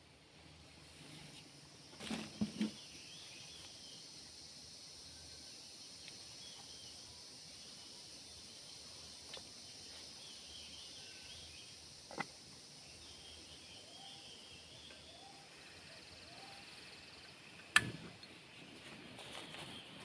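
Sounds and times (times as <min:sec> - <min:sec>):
high insect drone: 0:00.2 - 0:20.0.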